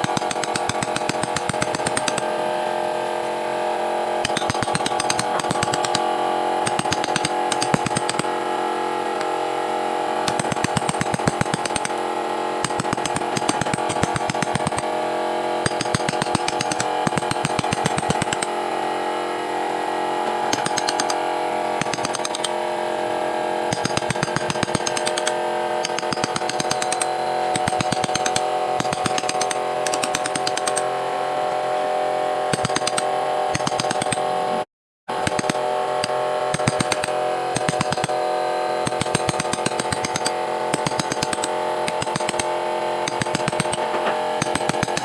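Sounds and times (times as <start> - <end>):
power carving tool whining: 0.0 - 45.0.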